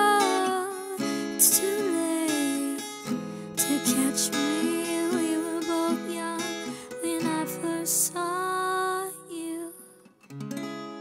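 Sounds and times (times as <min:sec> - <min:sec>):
woman singing: 0:00.0 - 0:10.1.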